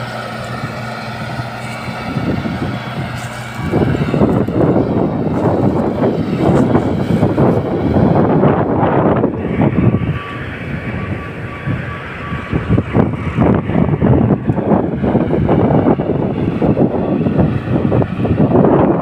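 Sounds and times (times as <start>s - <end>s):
diesel engine running: 0.0s - 19.0s
wind buffeting microphone: 0.0s - 19.0s.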